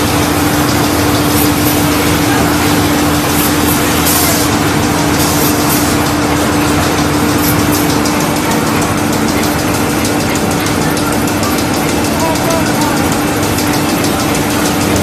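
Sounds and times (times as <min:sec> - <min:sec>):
cutting machine running: 0:00.0 - 0:15.0.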